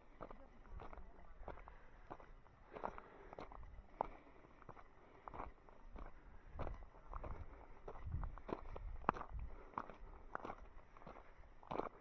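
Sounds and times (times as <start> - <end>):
footsteps on a path: 0.0 - 12.0.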